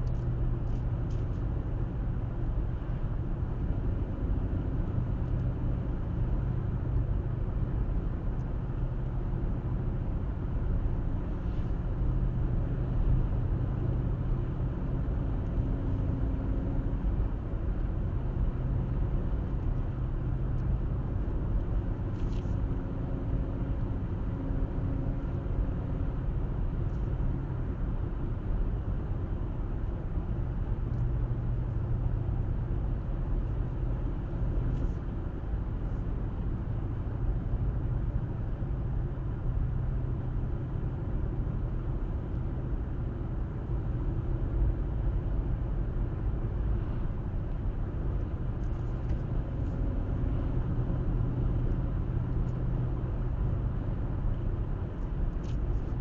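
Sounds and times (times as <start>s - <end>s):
car driving road rumble: 0.0s - 56.0s.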